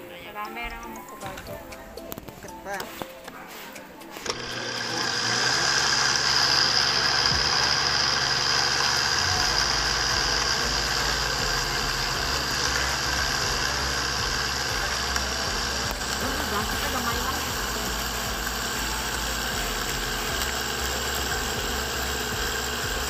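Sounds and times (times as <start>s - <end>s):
blender motor whining: 4.1s - 23.0s.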